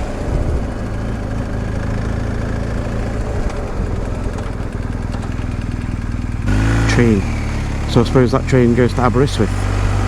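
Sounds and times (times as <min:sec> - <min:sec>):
motorcycle engine running steadily: 0:00.0 - 0:10.0.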